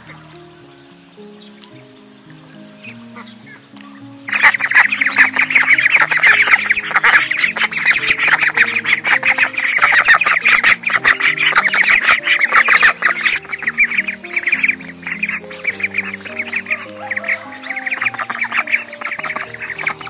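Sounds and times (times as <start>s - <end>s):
ducks quacking: 0.0s - 0.4s, 1.7s - 20.0s
quiet background music: 0.0s - 20.0s.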